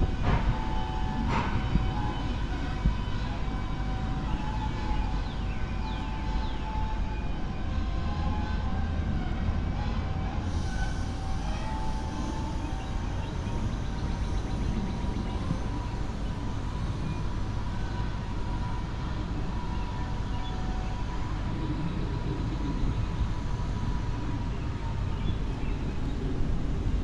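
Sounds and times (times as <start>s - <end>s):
distant diesel locomotive rumble: 0.0s - 27.0s
faint steady whine: 0.0s - 27.0s.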